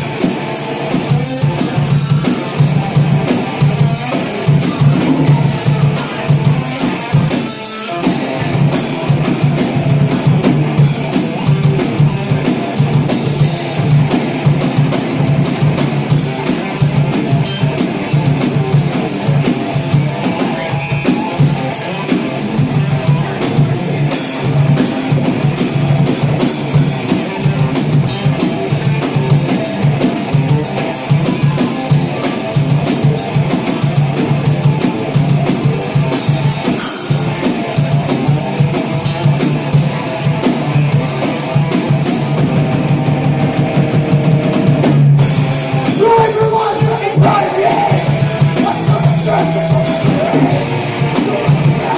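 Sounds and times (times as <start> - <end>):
drum kit beat: 0.0 - 51.9
rock guitar: 0.0 - 51.9.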